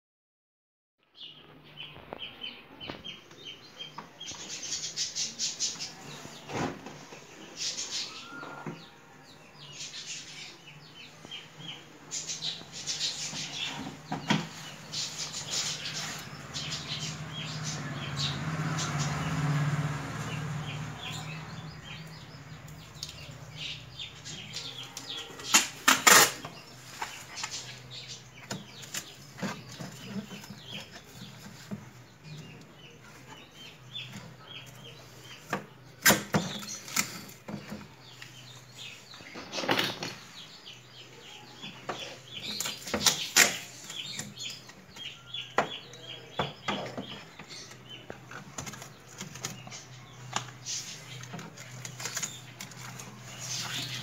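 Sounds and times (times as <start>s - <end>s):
small birds chirping: 1.0s - 54.0s.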